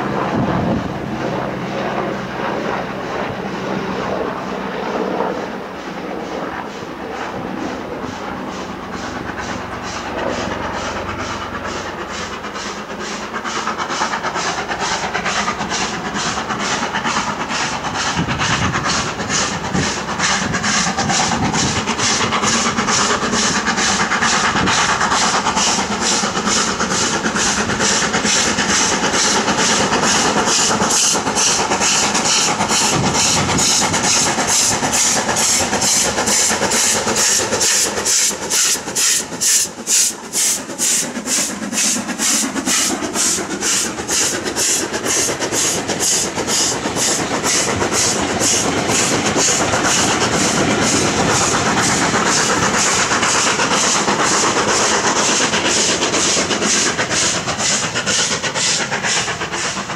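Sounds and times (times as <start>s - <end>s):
steam locomotive exhaust beats: 0.0s - 59.9s
steam hissing: 6.6s - 59.9s.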